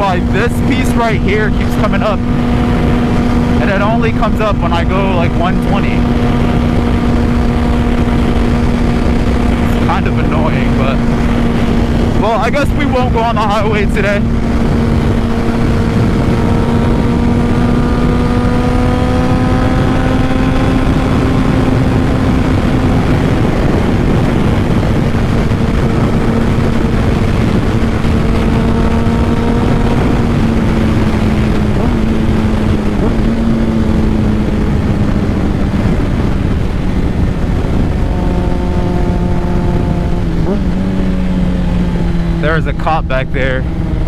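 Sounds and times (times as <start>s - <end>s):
motorcycle engine cruising: 0.0s - 44.0s
wind rush on microphone: 0.0s - 44.0s.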